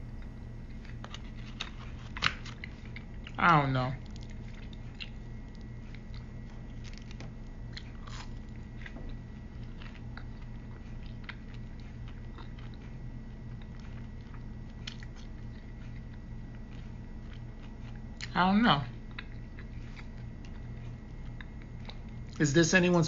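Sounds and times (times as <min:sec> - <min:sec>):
steady low hum: 0:00.0 - 0:23.0
person chewing: 0:00.1 - 0:03.4, 0:04.0 - 0:22.4.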